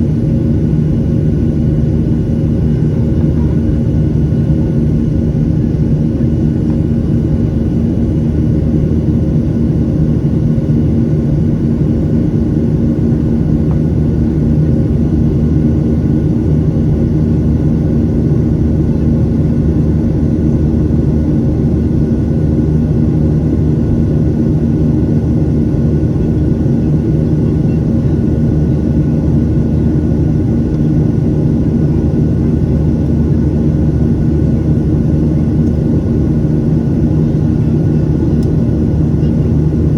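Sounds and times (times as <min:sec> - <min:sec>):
jet engines rumbling: 0:00.0 - 0:39.9
steady hum tones: 0:00.0 - 0:39.9.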